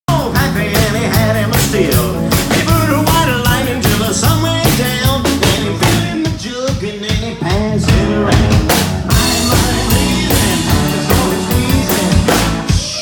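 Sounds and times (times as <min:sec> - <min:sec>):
rock and roll band playing: 0:00.1 - 0:13.0
steady drum beat: 0:00.1 - 0:13.0.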